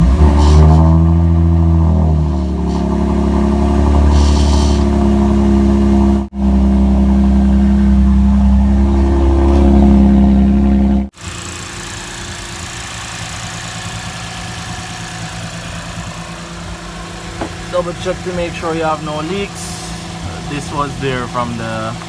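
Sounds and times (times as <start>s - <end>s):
car engine running steadily: 0.0s - 22.0s.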